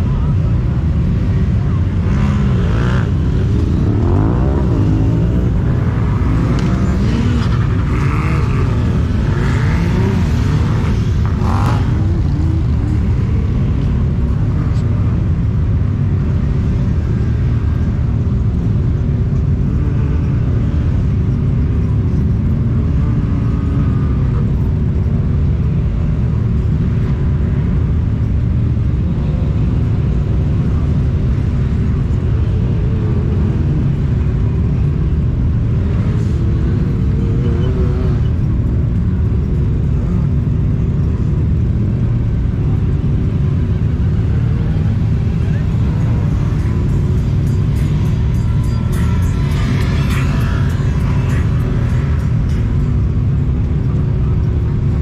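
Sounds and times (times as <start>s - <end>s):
utility vehicle engine revving: 0.8s - 25.0s, 29.0s - 55.0s.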